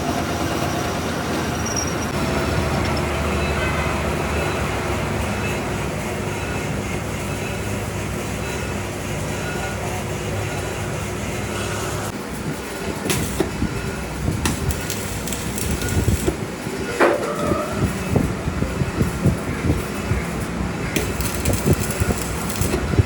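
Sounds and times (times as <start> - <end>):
low machine hum: 2.1 - 23.0.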